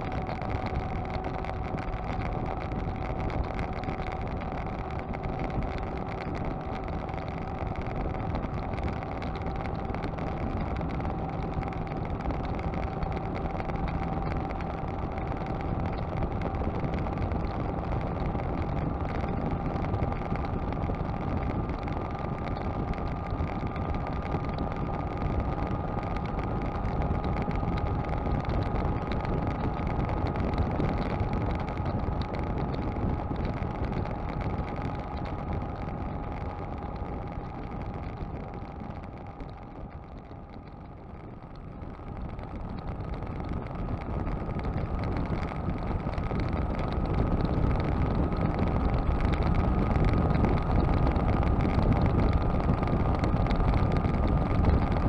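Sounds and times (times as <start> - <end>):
thin steady whine: 0.0 - 55.0
tyre and wind noise: 0.0 - 55.0.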